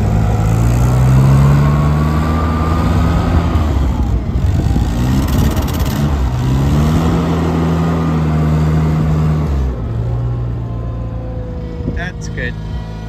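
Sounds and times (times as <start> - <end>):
skid steer engine revving: 0.0 - 13.0.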